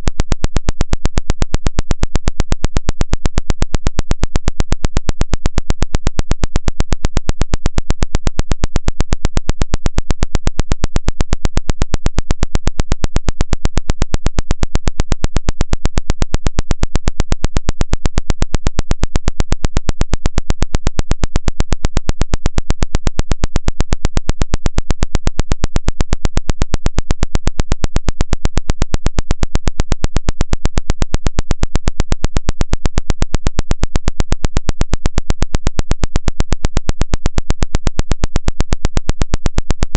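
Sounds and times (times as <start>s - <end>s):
rapid pulsing synthetic tone: 0.0s - 39.9s.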